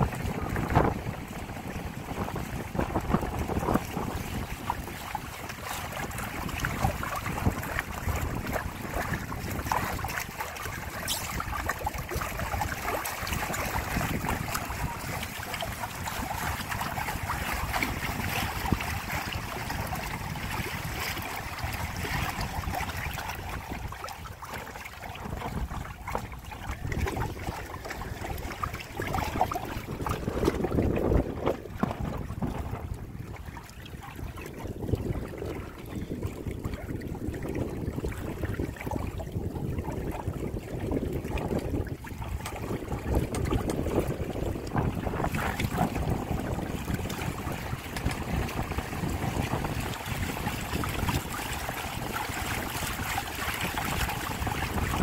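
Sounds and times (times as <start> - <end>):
water rushing along hulls: 0.0 - 55.0
wind buffeting microphone: 0.0 - 55.0.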